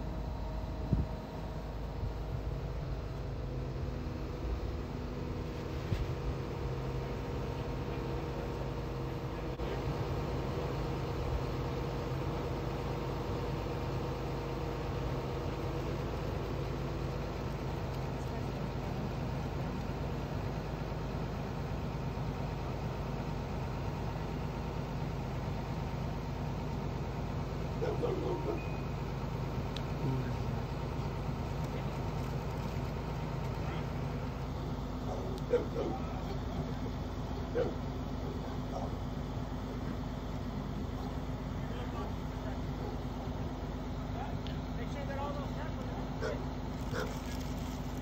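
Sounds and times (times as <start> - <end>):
crane engine humming: 0.0 - 48.0
faint steady whine: 0.0 - 48.0.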